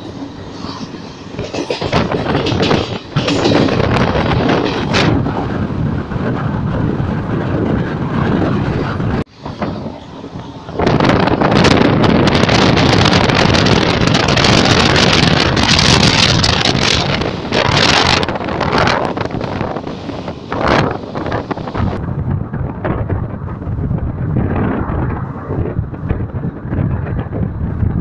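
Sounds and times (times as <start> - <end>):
moving train running noise: 0.0 - 28.0
wind buffeting microphone: 0.0 - 28.0.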